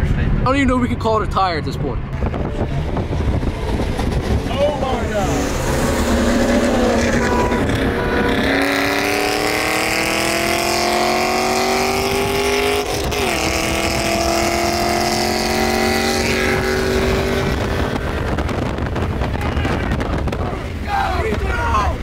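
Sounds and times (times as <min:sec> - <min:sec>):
car engine accelerating hard: 0:02.0 - 0:20.8.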